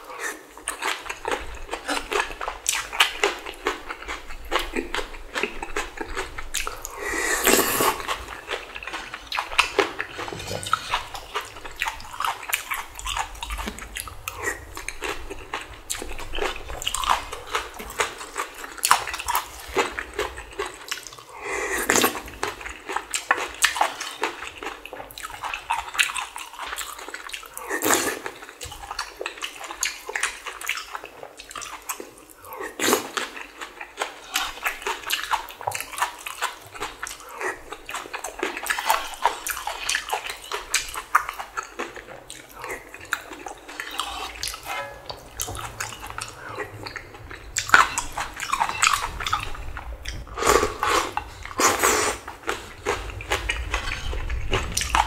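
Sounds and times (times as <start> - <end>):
chewing and smacking noodles: 0.0 - 55.0.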